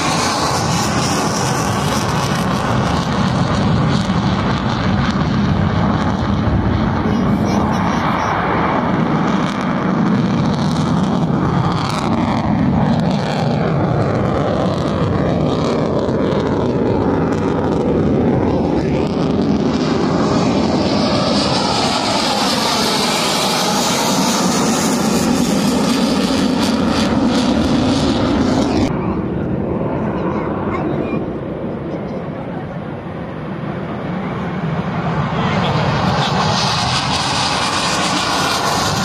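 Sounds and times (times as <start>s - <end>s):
fighter jet engines roaring: 0.0s - 39.0s.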